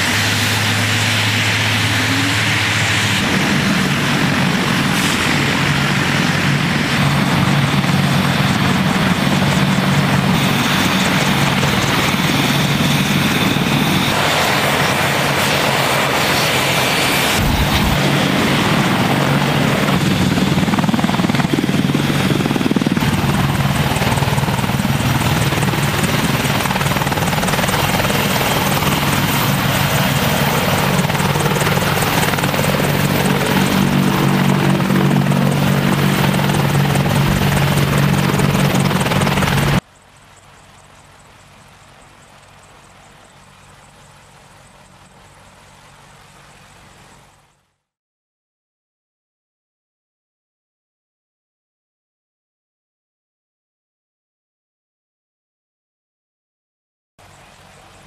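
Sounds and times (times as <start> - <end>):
helicopter rotor and engines droning: 0.0 - 47.9, 57.2 - 58.0.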